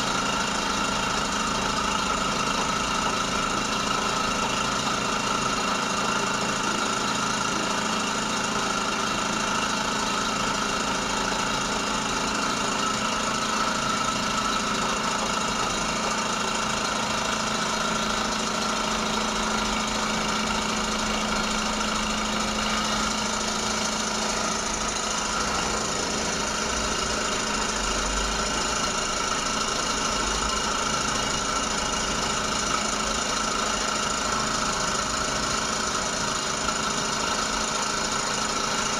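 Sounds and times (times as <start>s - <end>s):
electric machine humming: 0.0s - 38.9s.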